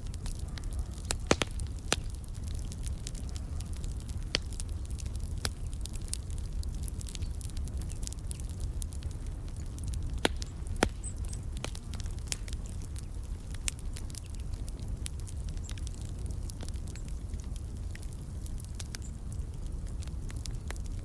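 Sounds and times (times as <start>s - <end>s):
loud fire pops: 0.0s - 21.0s
low rumble of burning: 0.0s - 21.0s
wood fire crackling: 0.0s - 21.0s.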